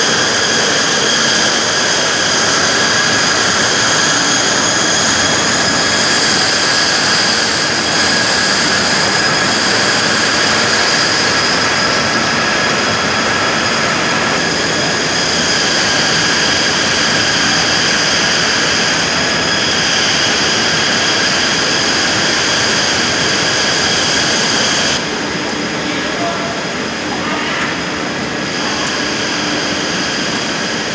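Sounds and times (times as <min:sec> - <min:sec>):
machinery high whines: 0:00.0 - 0:30.9.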